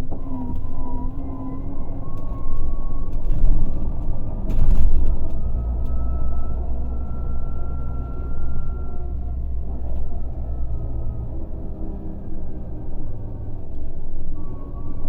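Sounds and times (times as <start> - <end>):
diesel bus engine rumbling: 0.0 - 15.0.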